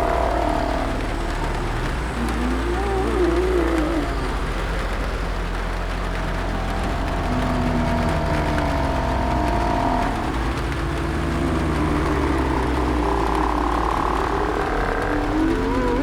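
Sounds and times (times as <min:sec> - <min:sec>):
low rumble with rattling pulse: 0:00.0 - 0:16.0
zombie moans: 0:00.0 - 0:16.0.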